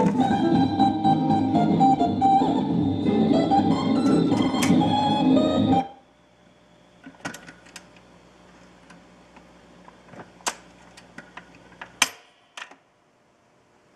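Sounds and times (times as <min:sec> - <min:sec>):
record changer low hum: 0:00.0 - 0:12.0.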